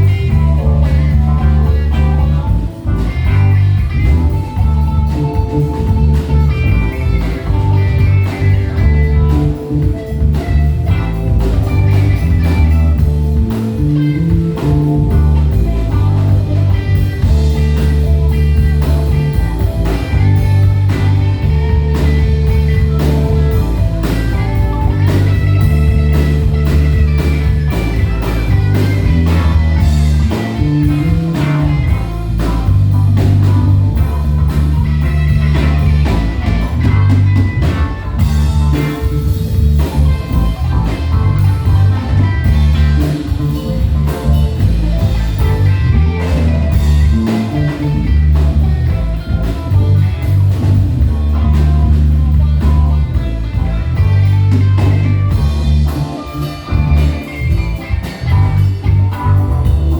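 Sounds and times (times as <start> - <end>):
live blues-rock band: 0.0 - 59.9.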